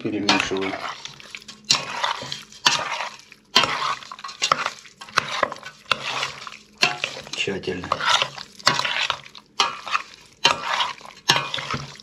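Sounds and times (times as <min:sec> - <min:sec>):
metal spoon scraping a pot: 0:00.0 - 0:12.0.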